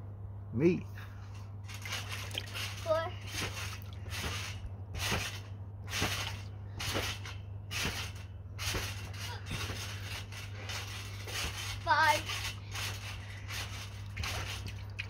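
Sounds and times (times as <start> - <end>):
steady low hum: 0.0 - 15.0
trampoline mat bouncing: 1.6 - 15.0.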